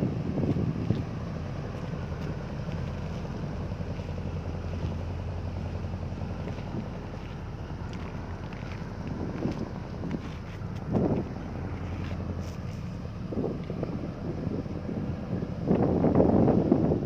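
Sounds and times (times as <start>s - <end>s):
tugboat engine droning: 0.0s - 17.0s.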